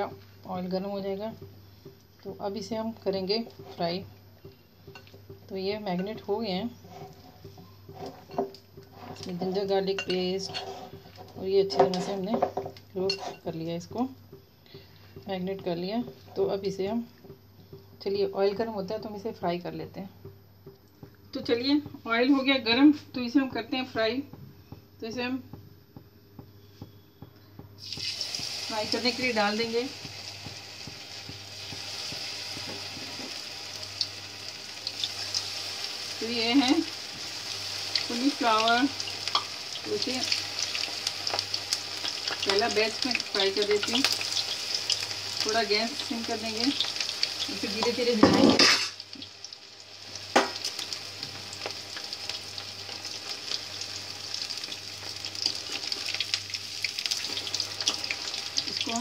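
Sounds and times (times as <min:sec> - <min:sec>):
battered food deep-frying: 0:00.0 - 0:22.1, 0:27.6 - 0:59.0.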